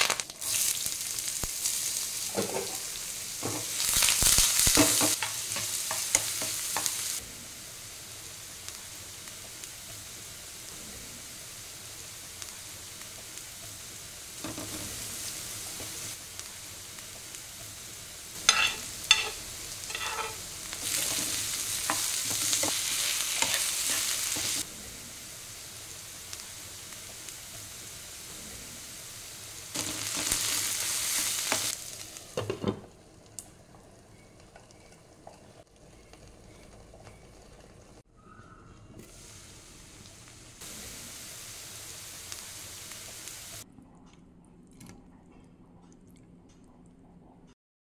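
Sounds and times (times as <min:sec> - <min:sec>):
vegetables sizzling in a pan: 0:00.0 - 0:38.1, 0:39.0 - 0:43.7.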